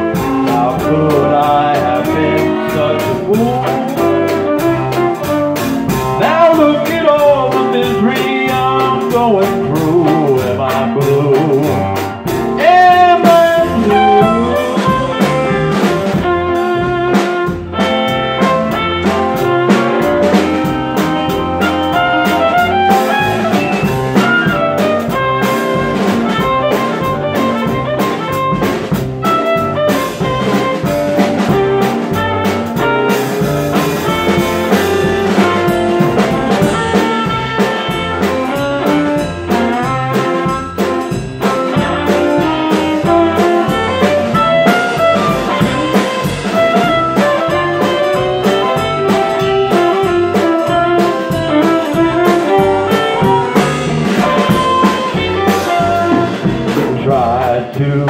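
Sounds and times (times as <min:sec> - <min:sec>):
drum kit beat: 0:00.0 - 0:58.0
electric guitar: 0:00.0 - 0:58.0.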